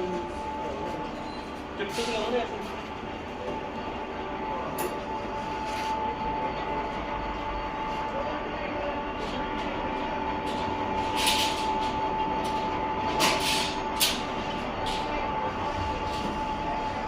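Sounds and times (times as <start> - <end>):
machine motor hum and whine: 0.0 - 17.0.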